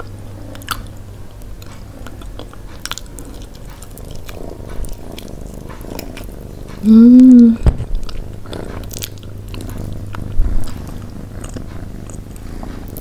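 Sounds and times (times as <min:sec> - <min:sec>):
chewing soft food: 0:00.0 - 0:13.0.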